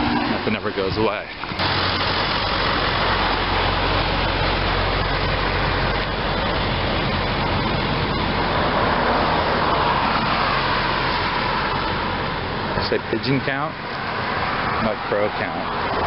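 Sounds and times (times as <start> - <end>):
steady rumble and hiss: 0.0 - 14.3.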